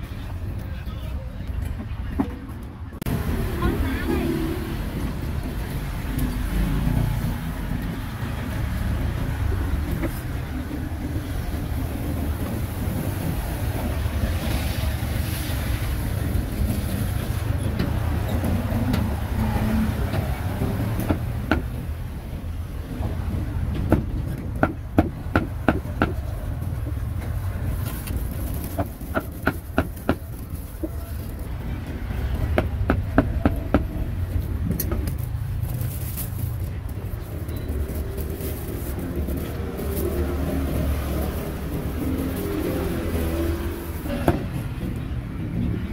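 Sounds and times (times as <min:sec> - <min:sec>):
street traffic rumble: 0:00.0 - 0:45.9.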